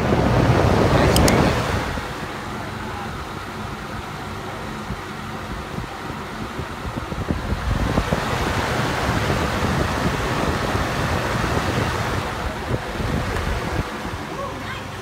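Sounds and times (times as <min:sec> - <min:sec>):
fan airflow on microphone: 0:00.0 - 0:15.0.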